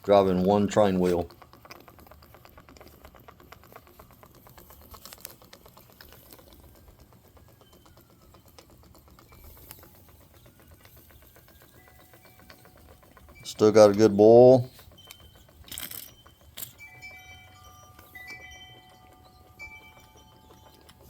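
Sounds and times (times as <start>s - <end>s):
model steam engine ticking: 0.0s - 21.0s.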